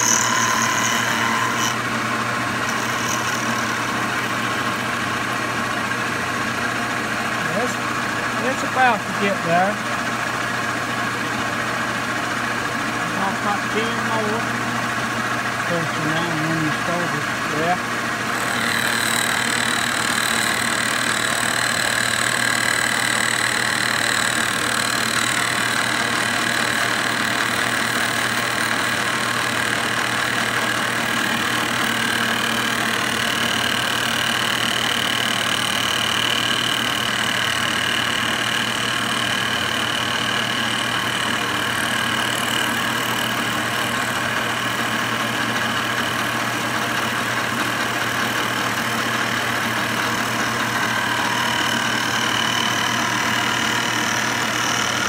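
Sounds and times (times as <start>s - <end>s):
high cutting whine: 0.0s - 9.9s, 15.5s - 55.0s
milling machine motor hum: 0.0s - 55.0s.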